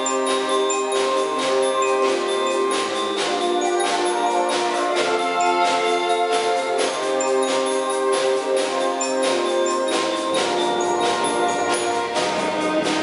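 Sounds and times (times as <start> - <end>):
saxophone ensemble chords: 0.0 - 13.0
steady percussive beat: 0.0 - 13.0.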